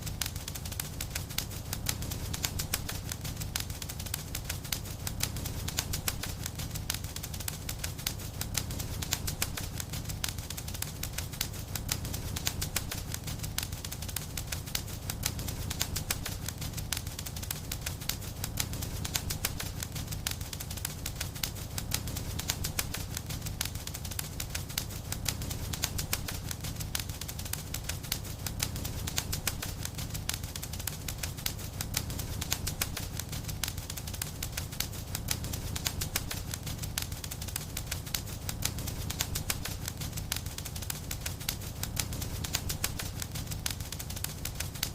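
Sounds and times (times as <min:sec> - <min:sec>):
fireplace fire crackling: 0:00.0 - 0:44.9.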